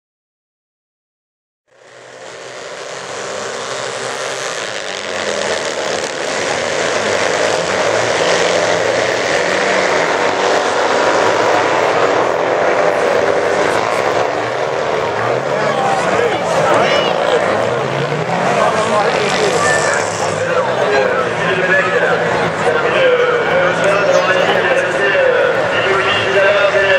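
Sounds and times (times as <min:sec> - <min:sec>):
racing kart engines revving: 0:01.7 - 0:26.9.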